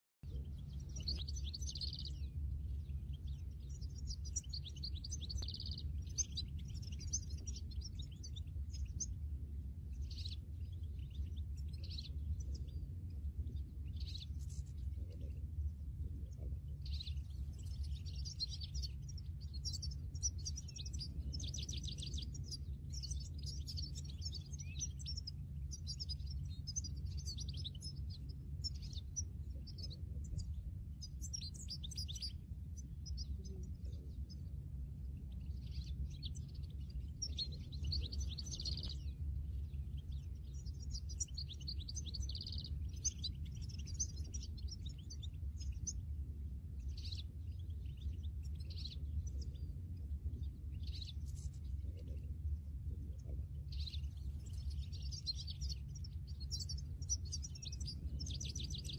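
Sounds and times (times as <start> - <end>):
steady low rumble: 0.2 - 58.9
goldfinches twittering: 0.3 - 58.9.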